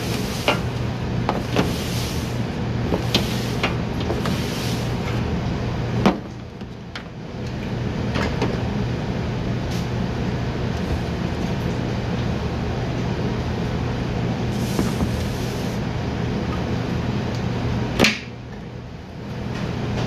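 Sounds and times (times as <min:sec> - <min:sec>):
ventilation hum: 0:00.0 - 0:20.0.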